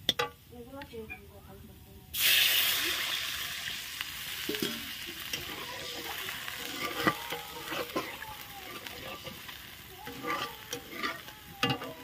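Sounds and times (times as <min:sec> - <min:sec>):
water hissing in hot oil: 0:02.1 - 0:12.0.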